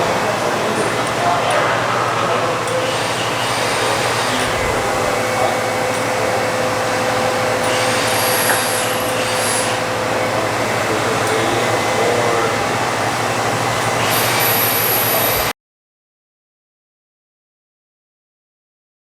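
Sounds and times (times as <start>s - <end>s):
machine whirring: 0.0s - 15.5s.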